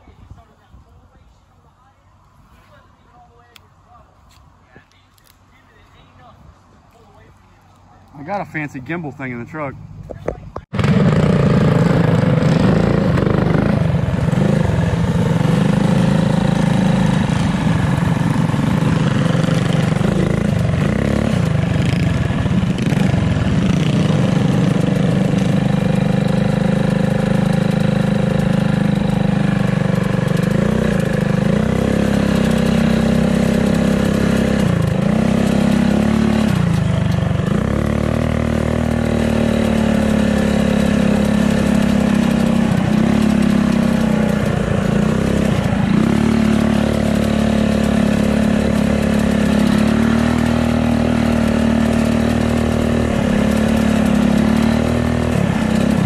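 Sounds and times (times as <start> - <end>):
small motorbike engine revving: 10.6 - 56.0.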